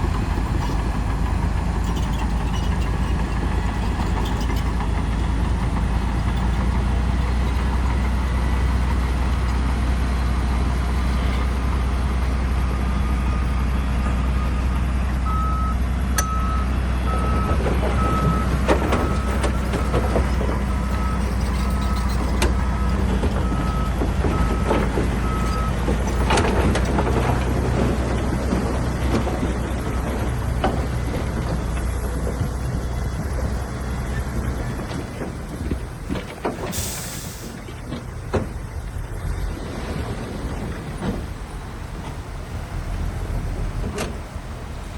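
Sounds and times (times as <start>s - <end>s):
diesel engine under load: 0.0s - 44.9s.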